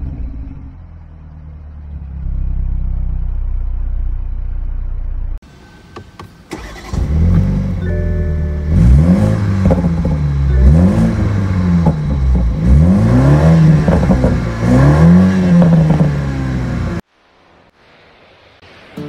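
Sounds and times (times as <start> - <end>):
car engine revving: 0.0 - 5.4, 6.5 - 17.1
car engine starting: 0.0 - 17.1.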